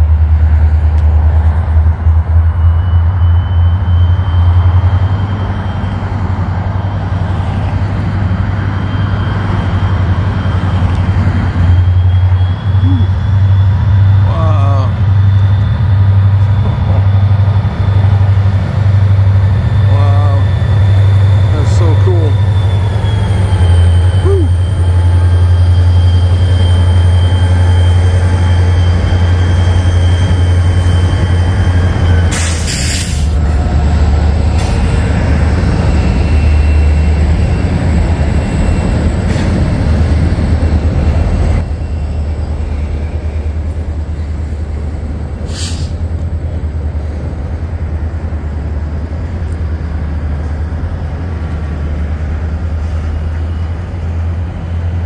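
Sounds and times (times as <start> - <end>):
freight train rumbling on trestle: 0.0 - 55.0.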